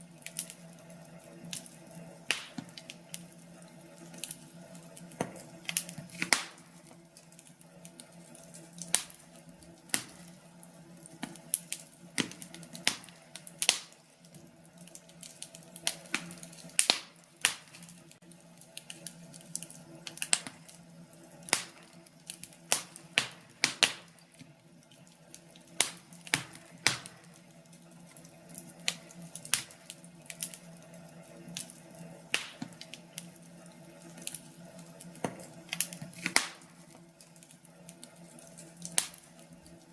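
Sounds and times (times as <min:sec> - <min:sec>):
faint steady hum: 0:00.0 - 0:39.9
fire crackling: 0:00.0 - 0:39.9.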